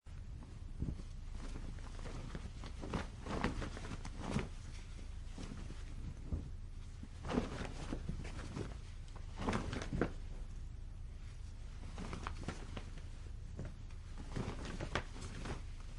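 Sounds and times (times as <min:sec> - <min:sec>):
cloth flapping in wind: 0:00.1 - 0:10.6, 0:11.2 - 0:15.9
steady low rumble: 0:00.1 - 0:15.9.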